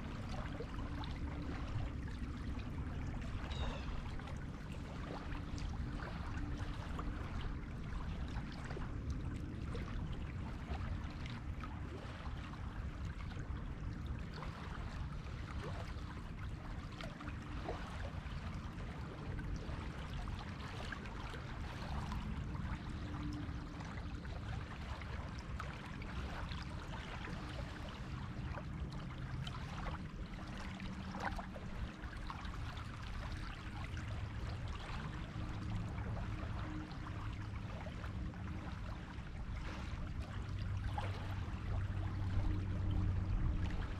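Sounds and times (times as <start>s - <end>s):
water crackles: 0.0s - 43.9s.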